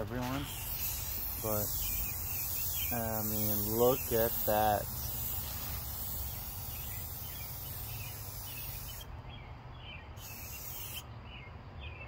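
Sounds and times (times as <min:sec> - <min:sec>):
high hiss: 0:00.2 - 0:09.1, 0:10.2 - 0:11.0.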